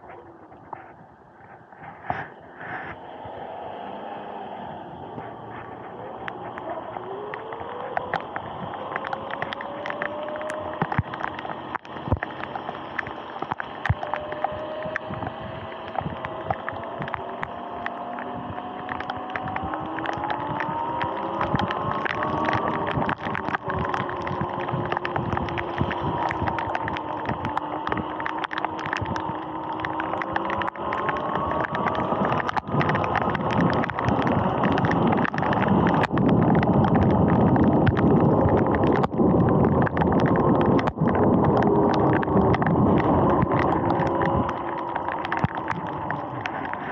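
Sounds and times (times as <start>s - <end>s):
wind rumble on microphone: 0.0s - 46.9s
tyres hissing on wet road: 1.8s - 39.1s, 39.8s - 46.9s
sharp ticks: 5.3s - 46.9s.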